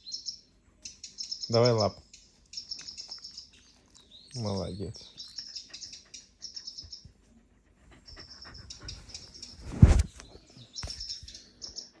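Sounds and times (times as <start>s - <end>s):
recorded birdsong from speaker: 0.0s - 7.2s, 8.0s - 12.0s.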